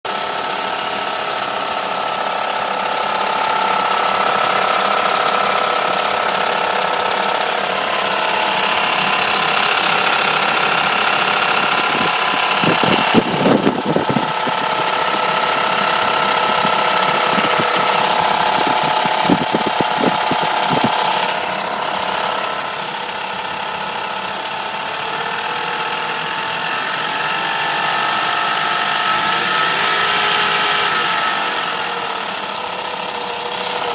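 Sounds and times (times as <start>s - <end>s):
car engine running with rattle: 0.0s - 33.9s.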